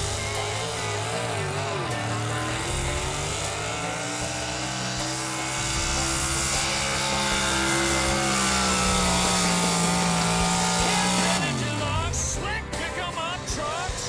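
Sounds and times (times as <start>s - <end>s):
truck engine at high revs: 0.0s - 14.0s.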